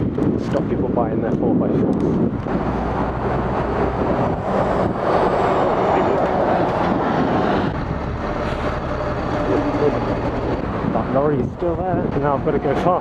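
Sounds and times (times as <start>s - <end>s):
street traffic: 0.0s - 13.0s
lorry engine humming: 1.3s - 13.0s.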